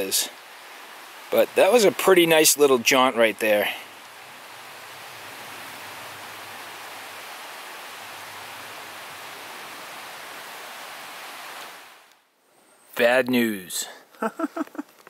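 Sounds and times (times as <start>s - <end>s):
flowing river water: 0.0s - 12.1s.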